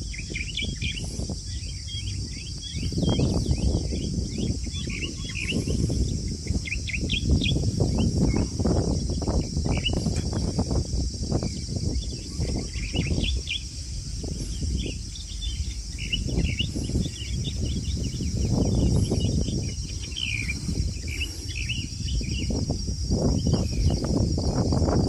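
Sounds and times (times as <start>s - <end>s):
insect chirps: 0.0s - 25.0s
insects trilling: 0.0s - 25.0s
low rumbling noise: 0.0s - 25.0s.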